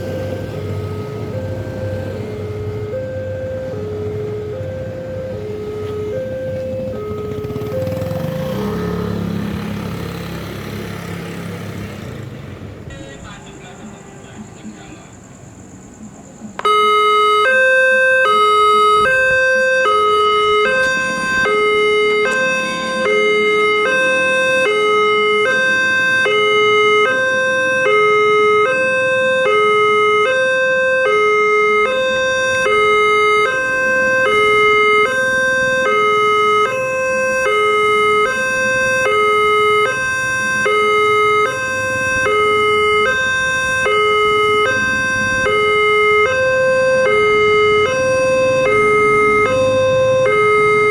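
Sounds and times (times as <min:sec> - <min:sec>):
level crossing two-tone alarm: 0:00.0 - 0:10.6, 0:16.4 - 0:50.9.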